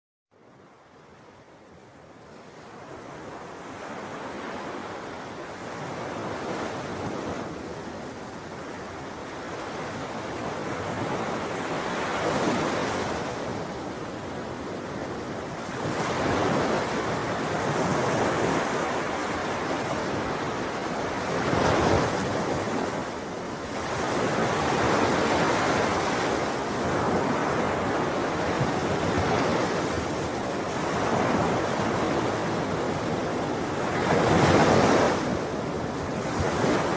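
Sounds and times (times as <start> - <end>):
ocean waves breaking on shore: 0.4 - 36.9.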